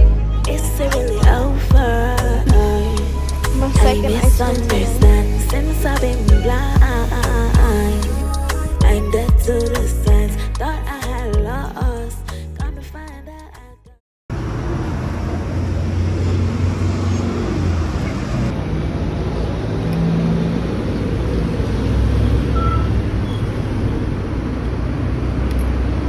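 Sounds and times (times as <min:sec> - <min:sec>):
traffic rumble: 0:00.0 - 0:09.8, 0:14.3 - 0:26.0.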